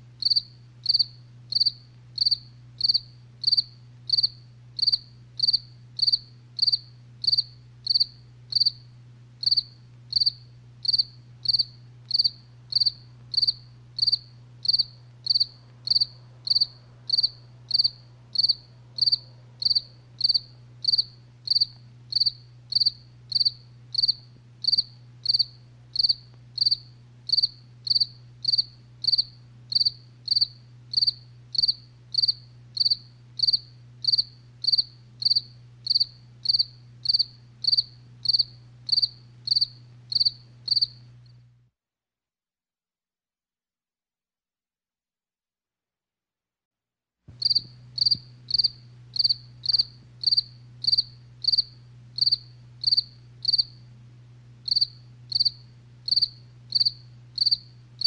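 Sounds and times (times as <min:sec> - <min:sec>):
faint low hum: 0:00.0 - 0:41.7, 0:47.3 - 0:58.0
cricket chirping: 0:00.2 - 0:41.1, 0:47.4 - 0:53.9, 0:54.6 - 0:57.8.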